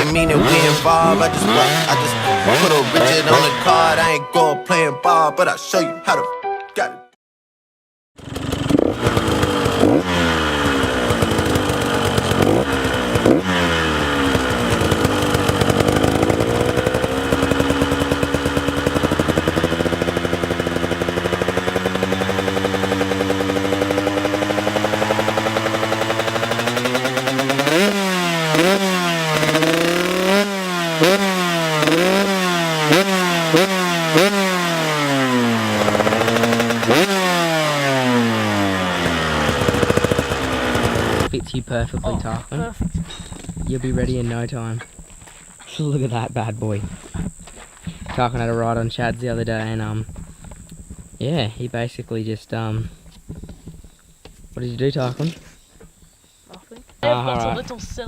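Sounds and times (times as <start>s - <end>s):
dirt bike engine revving: 0.0s - 4.1s, 8.2s - 53.9s.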